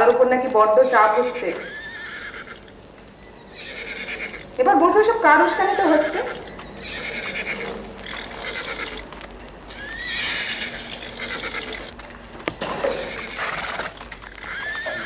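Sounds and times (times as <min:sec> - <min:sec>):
hooves clopping: 0:00.0 - 0:15.0
horses neighing: 0:01.1 - 0:15.0.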